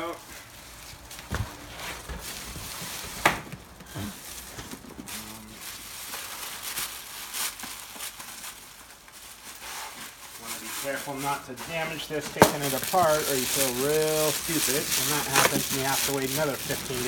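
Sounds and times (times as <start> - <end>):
foam packaging rubbing: 0.2 - 17.0
plastic bag crinkling: 0.3 - 17.0.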